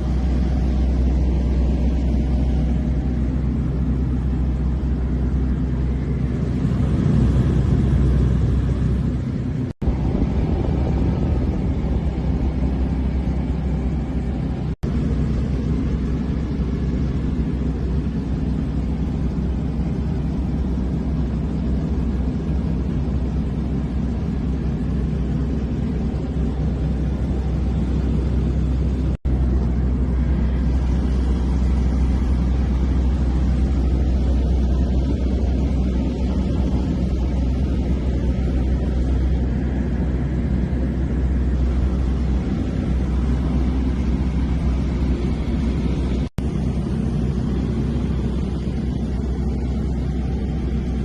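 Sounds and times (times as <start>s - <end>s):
small airplane engine droning: 0.0s - 51.0s.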